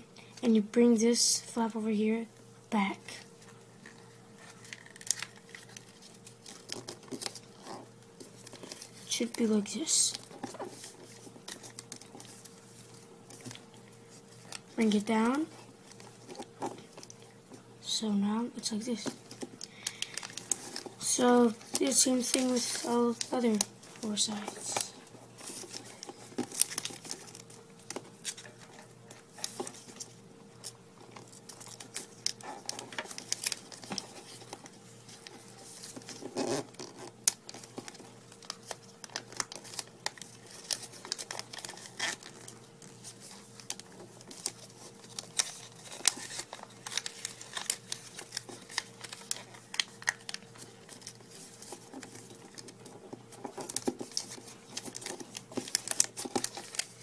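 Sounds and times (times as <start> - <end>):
paper crinkling and crackling: 2.7 - 57.0.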